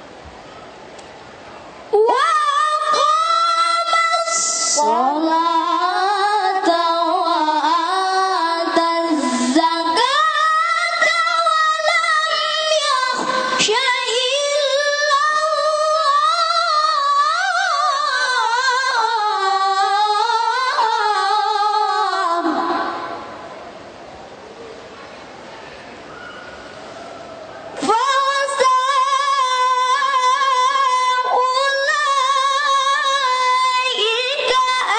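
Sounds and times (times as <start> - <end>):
person reciting melodically: 1.9 - 23.2, 27.8 - 34.9.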